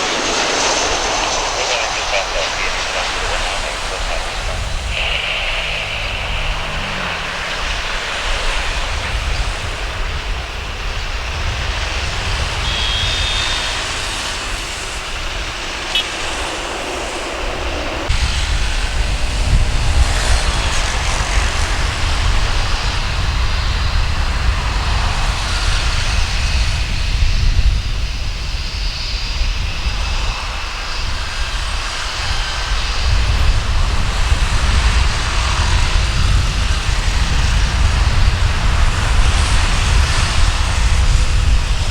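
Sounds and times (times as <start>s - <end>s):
jet airliner engines: 0.0s - 41.9s.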